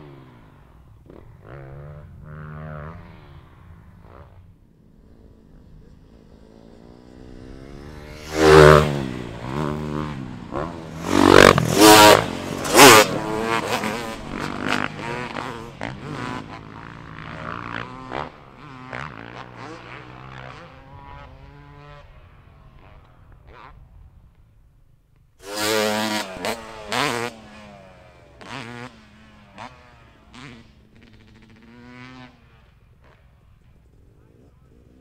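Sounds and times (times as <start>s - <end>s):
dirt bikes revving: 0.0s - 23.8s, 25.4s - 35.0s.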